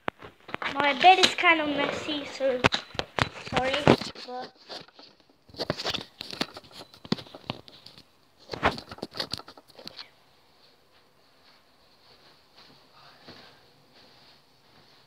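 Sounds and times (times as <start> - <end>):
cloth rustling against microphone: 0.0 - 15.0.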